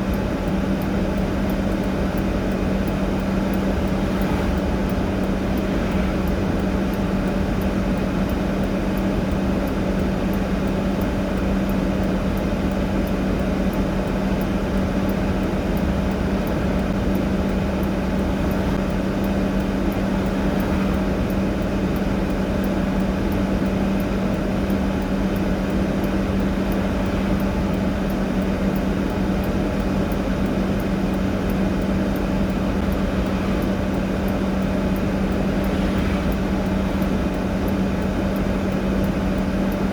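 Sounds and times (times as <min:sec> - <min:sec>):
motor droning: 0:00.0 - 0:09.4, 0:13.4 - 0:39.9
faint high ticks: 0:00.0 - 0:39.9.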